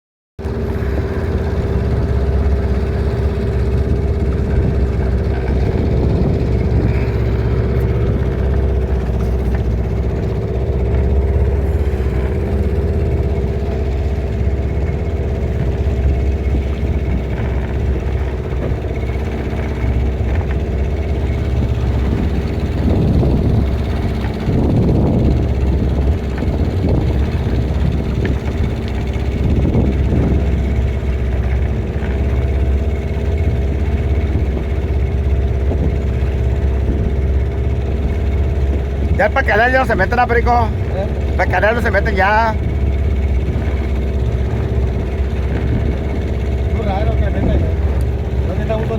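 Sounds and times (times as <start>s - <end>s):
boat motor droning: 0.4s - 48.9s.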